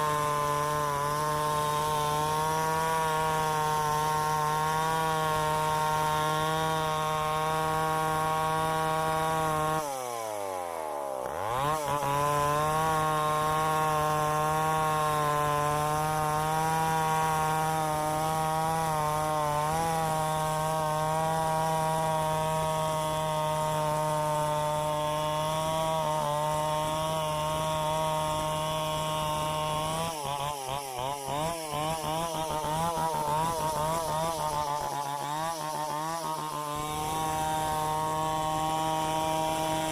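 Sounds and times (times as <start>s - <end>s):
chainsaw milling a log: 0.0s - 39.9s.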